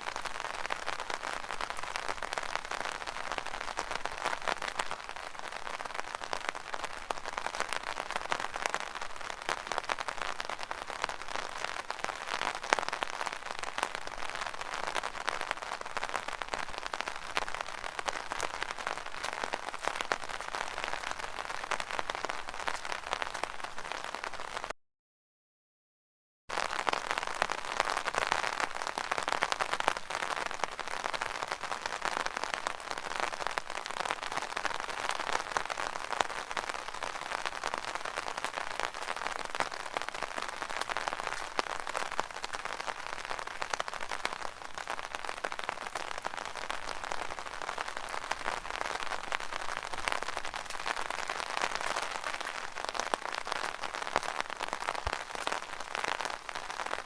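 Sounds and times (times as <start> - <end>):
rain pattering on an umbrella: 0.0 - 24.7, 26.5 - 57.0.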